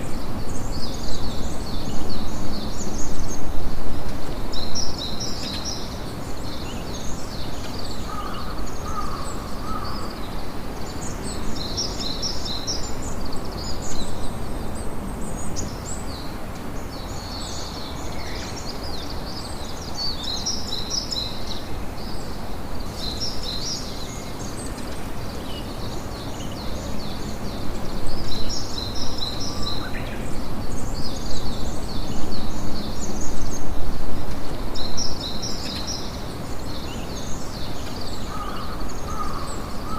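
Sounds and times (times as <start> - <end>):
wind: 0.0 - 39.9.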